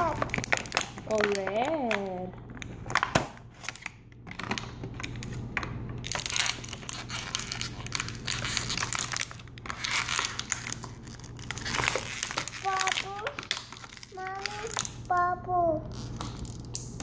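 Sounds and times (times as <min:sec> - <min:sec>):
plastic packaging crumpling and tearing: 0:00.0 - 0:17.0.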